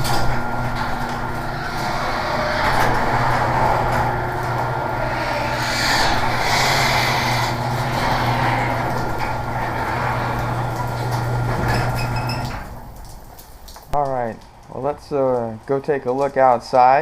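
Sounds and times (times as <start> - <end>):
garage door opener motor humming: 0.0 - 13.6
garage door rolling along track: 0.0 - 13.9.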